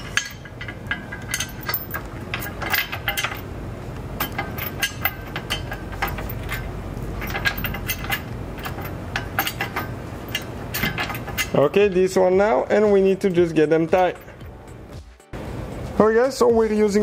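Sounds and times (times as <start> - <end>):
metal bolts and wrench clinking: 0.0 - 15.0
low steady hum: 0.0 - 17.0.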